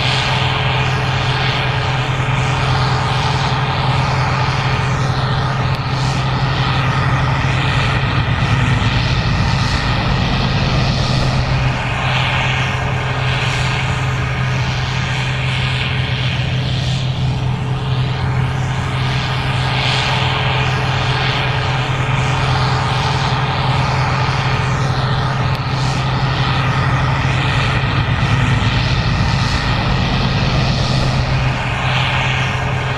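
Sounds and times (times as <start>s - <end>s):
combine harvester engine drone: 0.0s - 32.9s.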